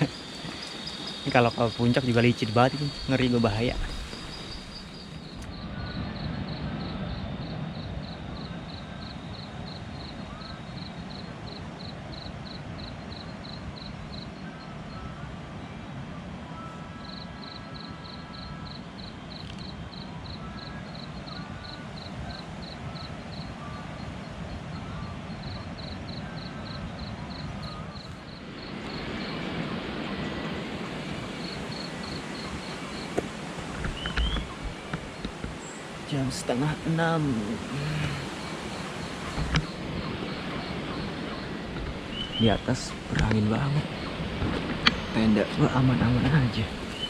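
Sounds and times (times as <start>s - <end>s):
insect chirping in pulses: 0.0s - 15.3s, 16.5s - 47.0s
steady noise bed: 0.0s - 47.0s.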